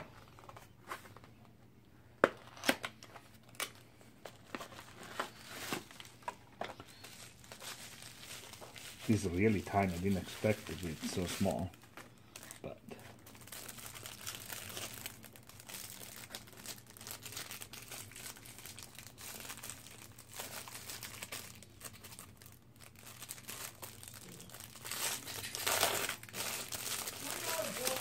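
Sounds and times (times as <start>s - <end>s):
plastic packaging crinkling: 2.3s - 28.0s.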